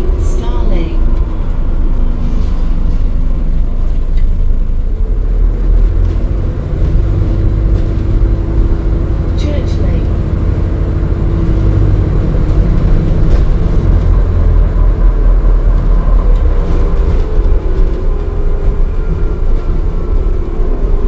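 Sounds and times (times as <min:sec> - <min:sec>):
bus interior rumble: 0:00.0 - 0:21.0.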